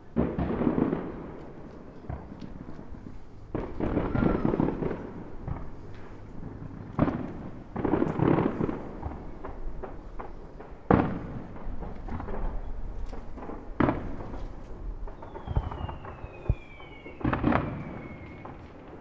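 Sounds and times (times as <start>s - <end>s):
firework bangs: 0.0s - 19.0s
fireworks crackling: 0.0s - 19.0s
small firework pops: 0.0s - 19.0s
whistling firework: 0.0s - 19.0s.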